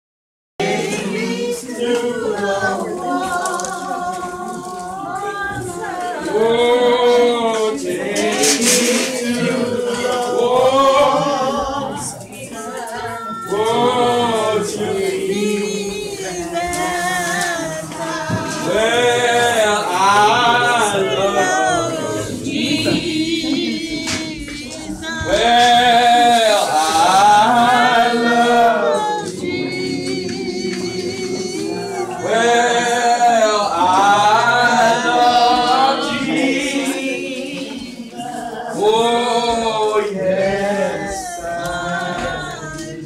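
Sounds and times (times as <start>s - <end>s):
congregation singing a hymn: 0.6s - 43.0s.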